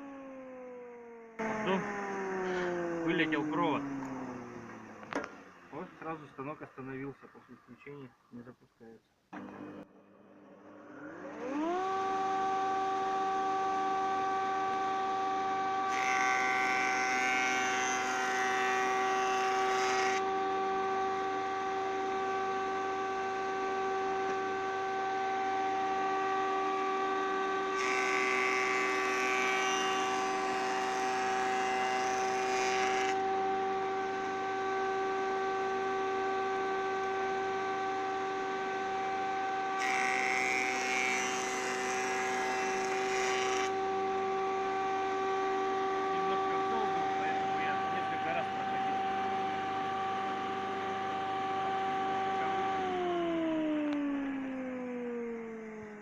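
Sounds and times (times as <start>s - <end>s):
woodworking machine whining: 0.0s - 7.8s, 9.4s - 56.0s.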